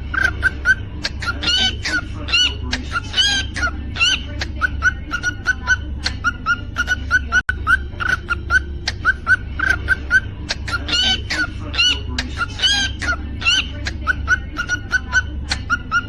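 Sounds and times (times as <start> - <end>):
cockatiel chirping: 0.1 - 16.0
cockatiel whistled calls: 0.1 - 16.0.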